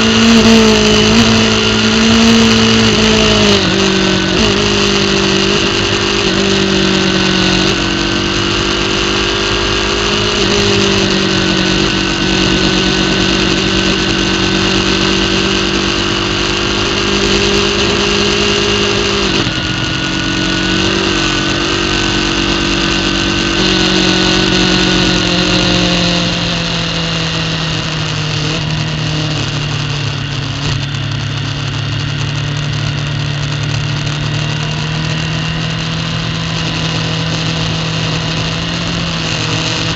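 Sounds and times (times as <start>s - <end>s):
motorbike engine revving: 0.0s - 39.9s
wind and road noise: 0.0s - 39.9s.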